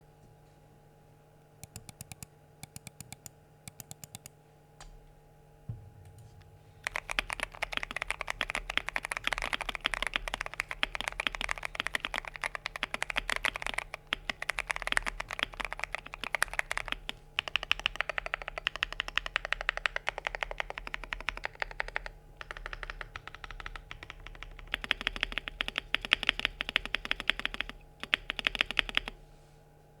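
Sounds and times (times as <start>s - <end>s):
faint steady hum: 0.0s - 30.0s
mechanical keyboard typing: 1.6s - 4.3s, 6.8s - 29.2s.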